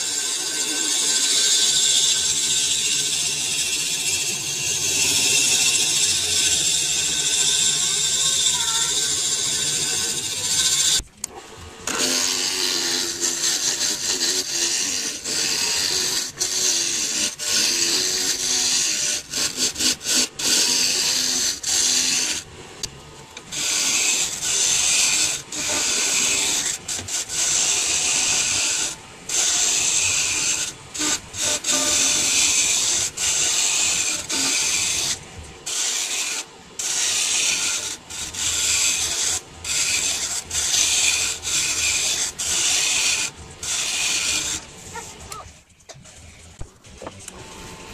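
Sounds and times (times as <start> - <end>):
wood scraping on lathe: 0.0 - 47.9.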